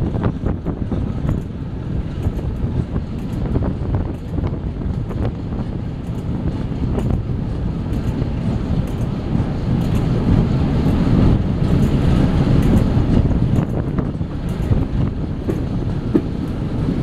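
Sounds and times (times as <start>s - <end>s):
low rumble of train: 0.0s - 17.0s
wind buffeting microphone: 0.0s - 17.0s.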